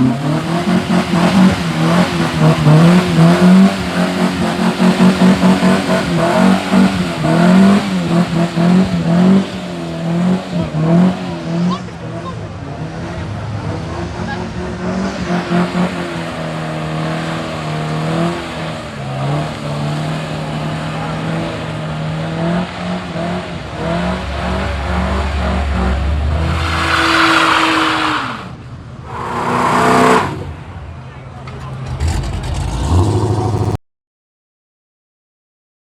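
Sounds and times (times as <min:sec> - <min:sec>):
car engine revving high: 0:00.0 - 0:30.9.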